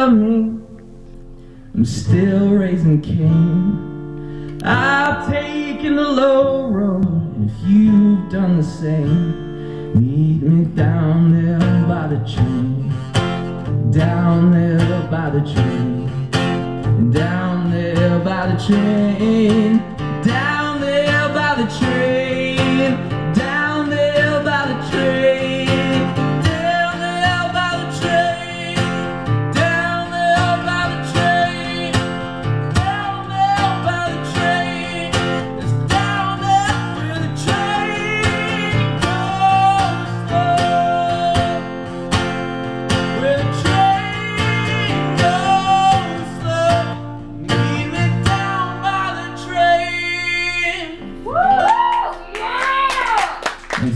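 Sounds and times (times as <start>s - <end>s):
acoustic guitar strumming: 0.0s - 53.2s.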